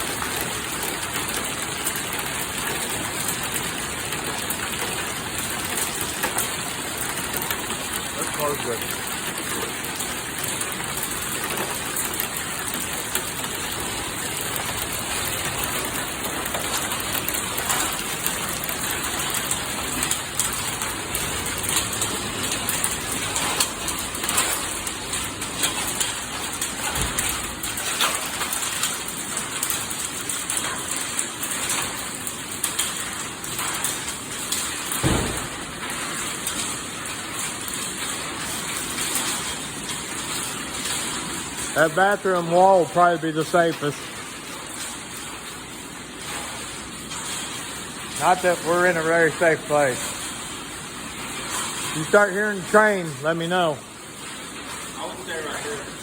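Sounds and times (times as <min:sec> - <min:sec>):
heavy rain and hail: 0:00.0 - 0:56.0.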